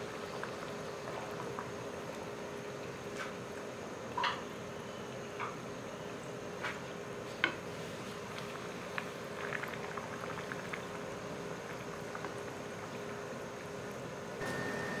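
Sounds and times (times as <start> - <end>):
dough deep-frying in oil: 0.0 - 15.0.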